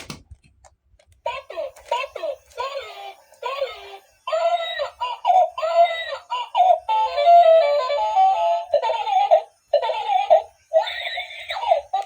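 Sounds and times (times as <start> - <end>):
electronic toy song with singing: 1.3 - 12.0.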